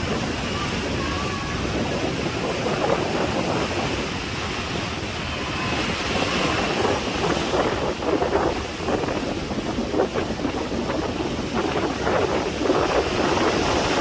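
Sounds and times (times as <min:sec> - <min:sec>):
waves breaking: 0:00.0 - 0:14.0.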